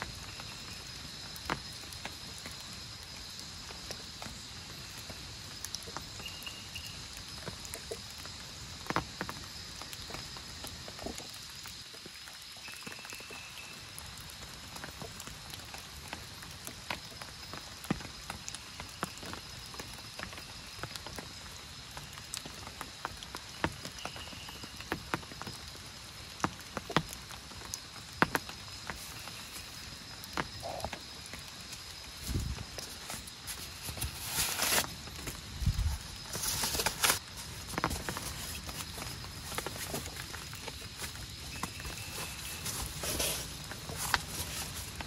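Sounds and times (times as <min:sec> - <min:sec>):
steady rain: 0:00.0 - 0:45.0
big raindrops tapping: 0:07.0 - 0:45.0.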